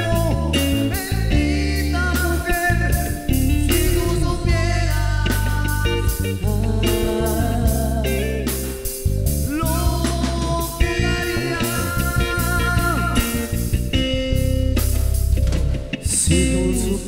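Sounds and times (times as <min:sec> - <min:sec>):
romantic song with guitar: 0:00.0 - 0:17.0
steady bass: 0:00.0 - 0:17.0.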